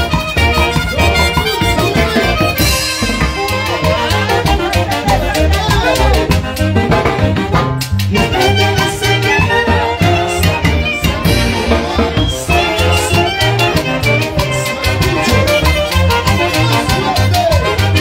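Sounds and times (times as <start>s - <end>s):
brass and saxophones playing: 0.0s - 18.0s
drum kit beat: 0.0s - 18.0s.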